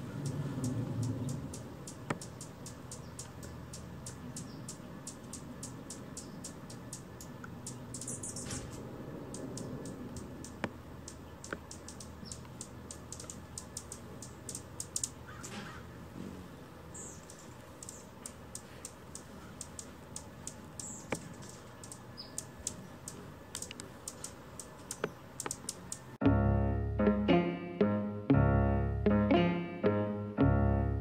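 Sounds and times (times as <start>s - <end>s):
high bird chirps: 0.0s - 15.8s, 16.9s - 26.2s
small birds ticking chips: 0.0s - 26.2s.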